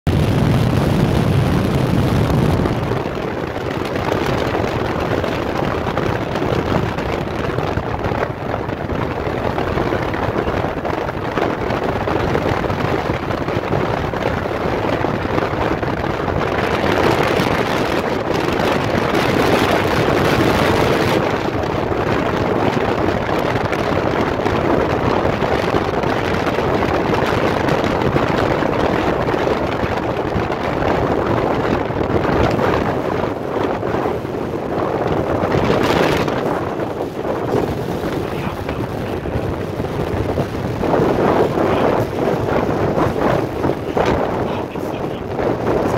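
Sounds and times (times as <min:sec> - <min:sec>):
vehicle driving on dirt road: 0:00.1 - 0:45.9
wind: 0:00.1 - 0:45.9.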